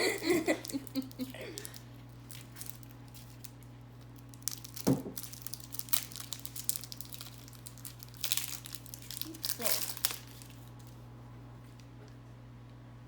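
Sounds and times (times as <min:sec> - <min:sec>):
wrapper crinkling and tearing: 0:00.1 - 0:11.0.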